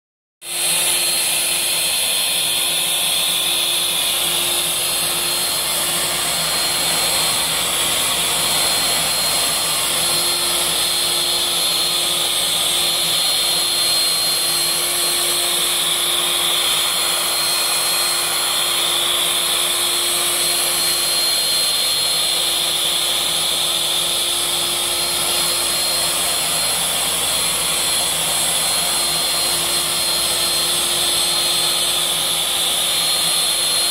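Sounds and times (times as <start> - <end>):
dust extraction: 0.4 - 33.9
router spindle cutting wood: 0.4 - 33.9.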